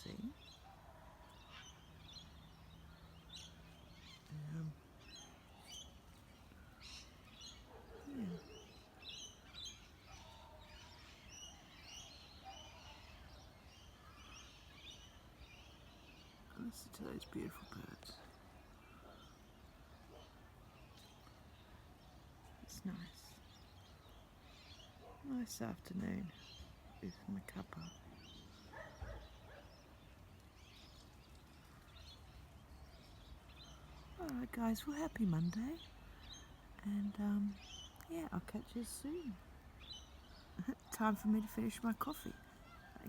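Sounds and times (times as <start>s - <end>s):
faint bird chirping: 0.0s - 43.0s.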